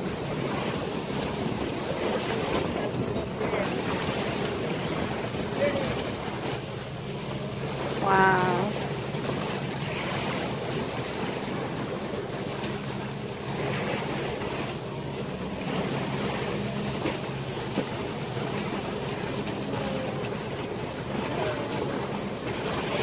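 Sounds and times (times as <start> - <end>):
water rushing past boat bow: 0.0 - 23.0.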